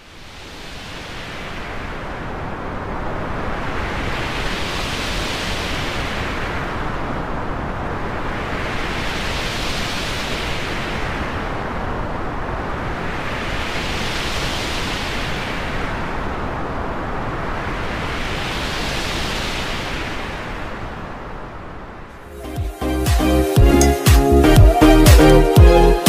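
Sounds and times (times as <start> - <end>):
noise sweep whooshes: 0.0 - 26.0.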